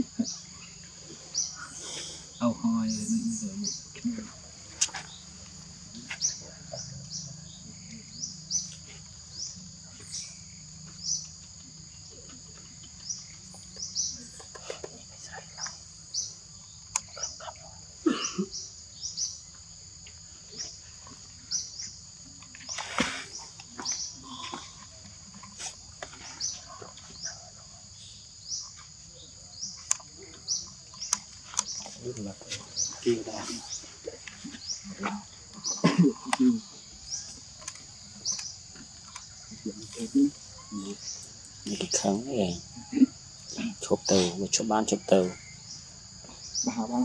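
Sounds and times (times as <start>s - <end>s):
forest insects droning: 0.0s - 47.0s.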